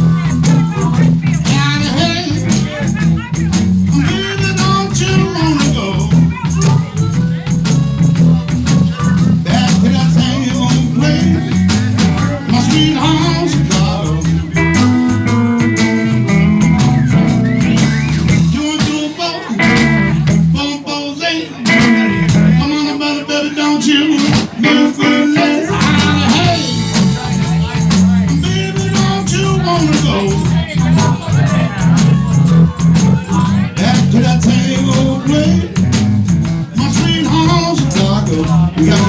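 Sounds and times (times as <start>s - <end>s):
live blues band playing: 0.0s - 39.0s.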